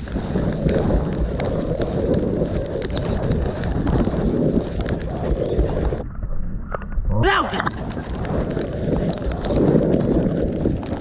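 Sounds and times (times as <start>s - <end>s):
rain and wind on microphone: 0.0s - 11.0s
raindrops clicking on microphone: 0.0s - 11.0s.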